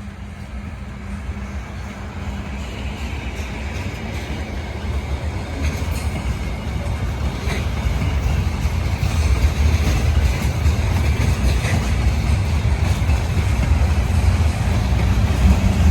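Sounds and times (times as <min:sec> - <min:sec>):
freight train rumbling: 0:00.0 - 0:15.9.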